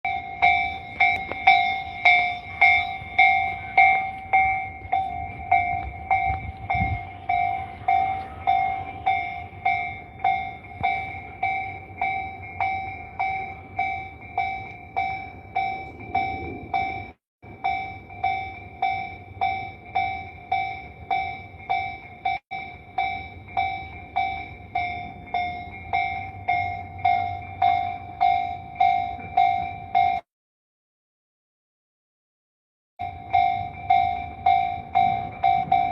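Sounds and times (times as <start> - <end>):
level-crossing warning bell: 0.0 - 30.3, 33.0 - 35.9.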